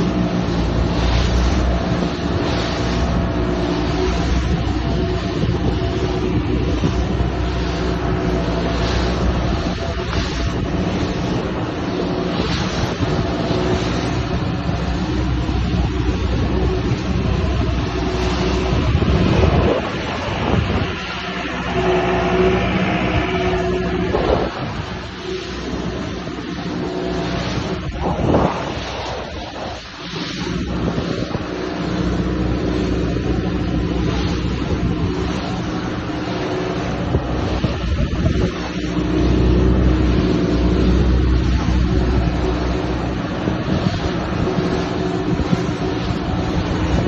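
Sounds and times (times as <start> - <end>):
boat engine rumbling: 0.0 - 47.0
rushing water noise: 0.0 - 47.0.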